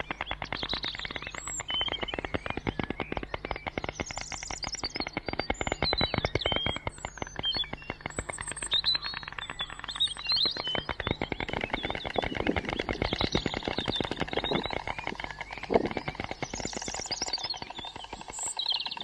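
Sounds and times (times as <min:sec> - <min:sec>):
small birds chirping: 0:00.0 - 0:19.0
storks clattering bills: 0:00.1 - 0:19.0.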